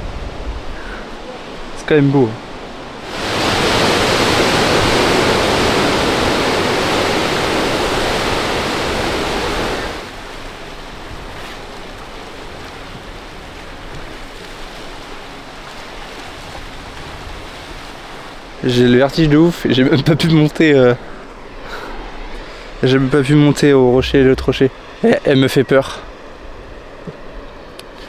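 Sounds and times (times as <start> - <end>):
sea surf washing: 0.0 - 28.0.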